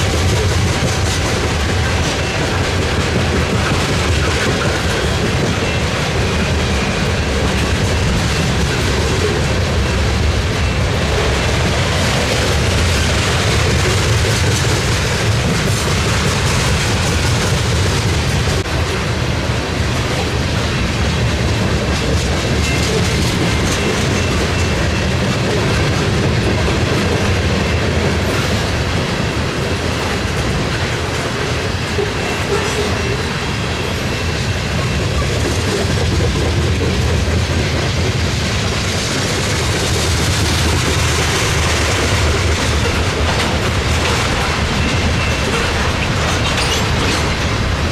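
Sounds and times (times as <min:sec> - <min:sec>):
train wheels clacking over rail joints: 0:00.0 - 0:47.9.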